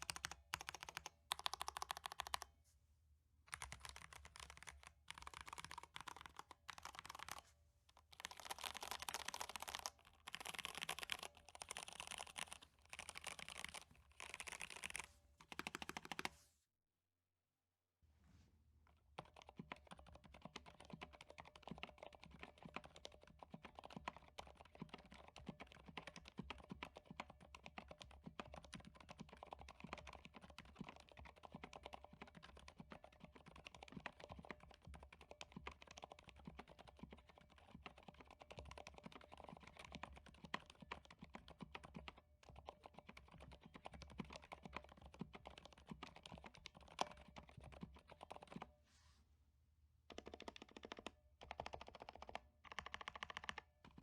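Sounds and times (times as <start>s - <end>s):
fast typing on mechanical keyboard: 0.0s - 2.5s, 3.5s - 7.4s, 8.0s - 16.3s, 19.2s - 48.7s, 50.1s - 54.0s.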